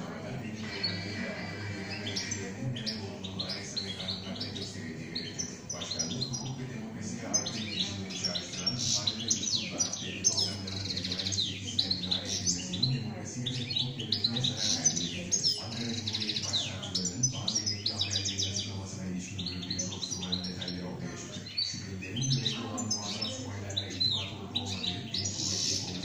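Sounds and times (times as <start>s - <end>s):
goldfinch singing: 0.0s - 26.0s.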